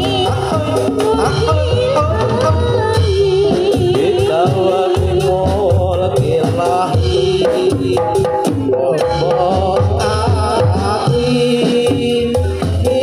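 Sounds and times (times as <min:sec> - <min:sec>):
drums beating a busy rhythm: 0:00.0 - 0:13.0
person singing into a microphone: 0:00.0 - 0:13.0.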